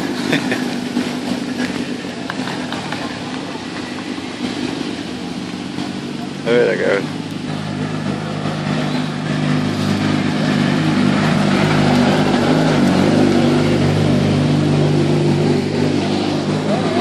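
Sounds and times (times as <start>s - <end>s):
race car engine rumbling: 0.0s - 17.0s.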